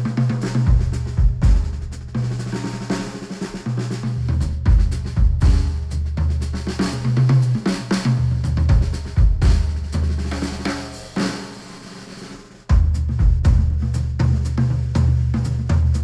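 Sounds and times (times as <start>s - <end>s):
instrumental music with drums and bass: 0.0s - 16.0s.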